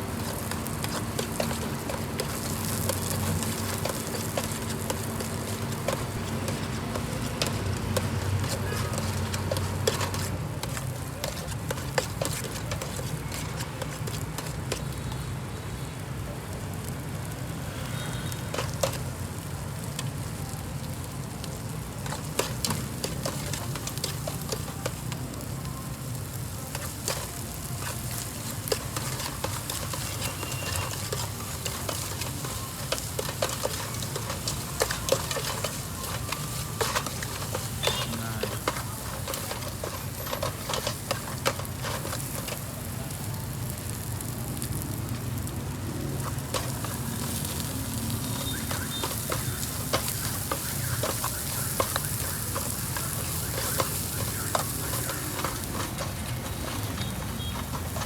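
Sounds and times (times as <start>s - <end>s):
utensil scraping a pan: 0.0s - 15.0s, 18.3s - 19.2s, 21.9s - 25.4s, 26.3s - 42.9s, 46.2s - 58.0s
food sizzling in a pan: 0.0s - 58.0s.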